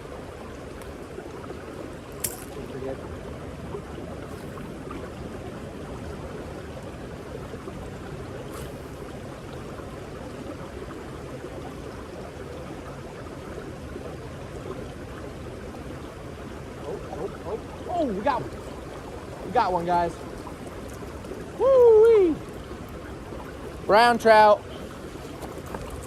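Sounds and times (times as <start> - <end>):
small waterfall rushing: 0.0 - 26.0.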